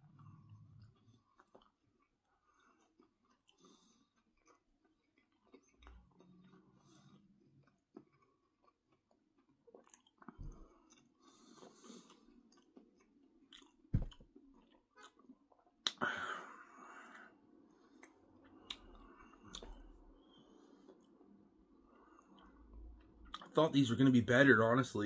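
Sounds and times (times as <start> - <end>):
person chewing: 0.0 - 16.0, 16.8 - 23.5.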